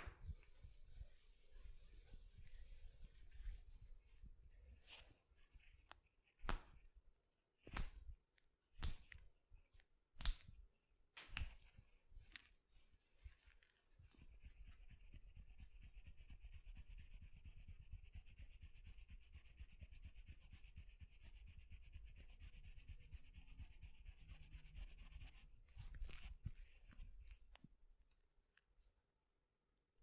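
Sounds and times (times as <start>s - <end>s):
hands rubbing skin: 0.0s - 27.8s.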